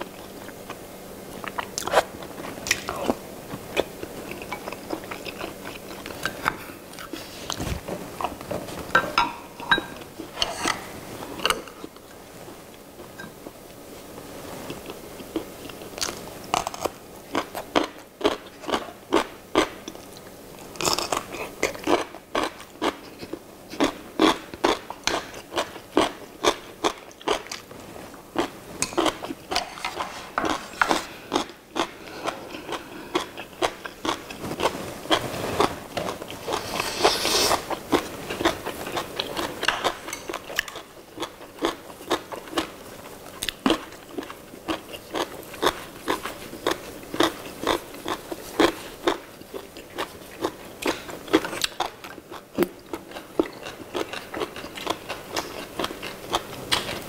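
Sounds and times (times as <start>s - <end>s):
people chewing: 0.0s - 8.9s, 14.5s - 57.0s.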